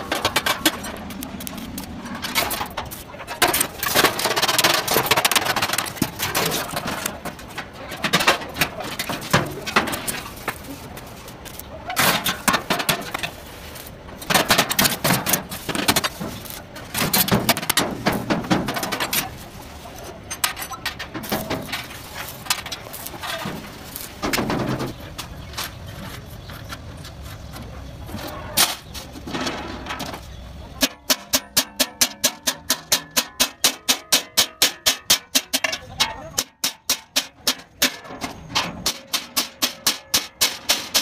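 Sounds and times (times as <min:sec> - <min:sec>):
metalworking noise on sheet steel: 0:00.0 - 0:41.0.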